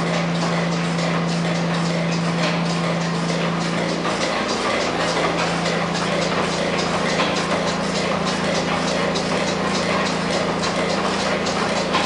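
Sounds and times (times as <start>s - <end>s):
rhythmic clatter of moving parts: 0.0s - 12.0s
steam engine running: 0.0s - 12.0s.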